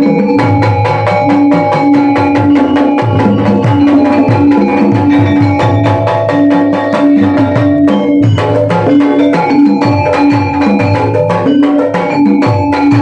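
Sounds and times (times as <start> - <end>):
gamelan ensemble playing: 0.0 - 13.0
hand drum strokes: 0.0 - 13.0.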